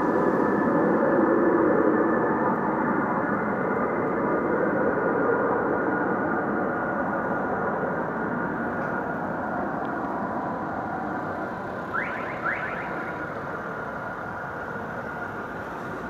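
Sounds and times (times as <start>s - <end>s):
steady rumbling drone in sky: 0.0s - 16.0s.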